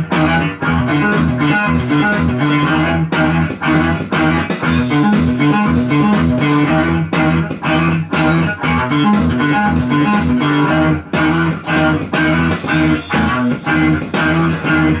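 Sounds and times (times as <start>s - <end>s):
electric guitar strummed: 0.0s - 15.0s.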